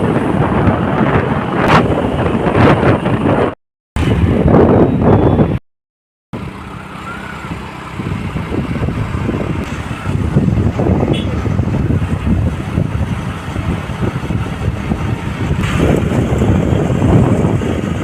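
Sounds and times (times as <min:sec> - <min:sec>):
wind rushing on microphone: 0:00.0 - 0:05.6, 0:07.2 - 0:18.0.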